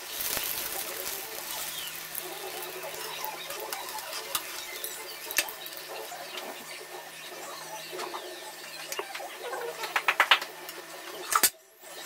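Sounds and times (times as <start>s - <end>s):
deep-frying oil sizzling and popping: 0.0s - 12.0s.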